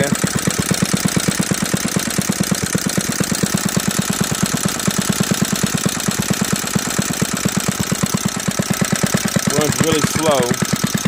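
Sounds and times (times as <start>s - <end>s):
small engine putting slowly: 0.0s - 11.0s.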